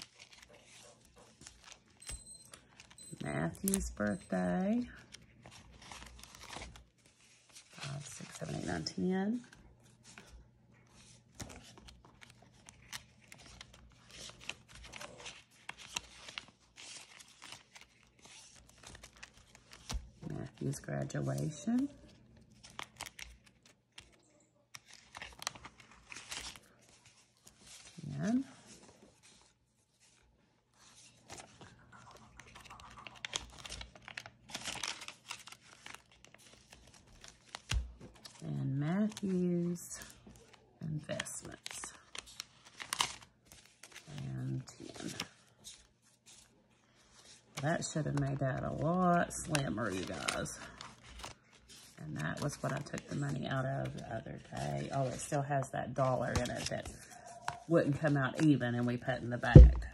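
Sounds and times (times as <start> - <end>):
banknotes rustling and crinkling: 0.0 - 59.9.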